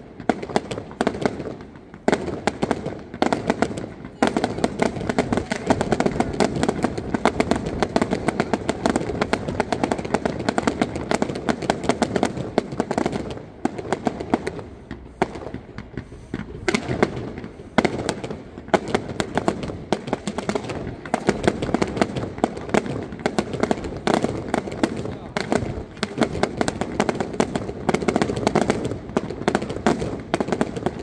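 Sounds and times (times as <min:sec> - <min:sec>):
fireworks cracking and banging: 0:00.0 - 0:31.0.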